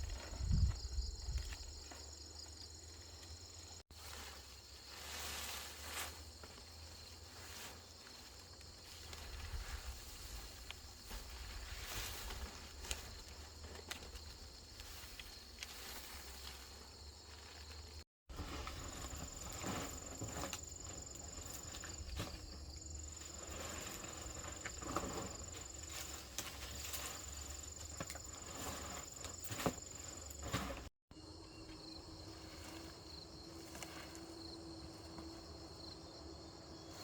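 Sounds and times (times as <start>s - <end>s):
insects chirring: 0.0s - 37.0s.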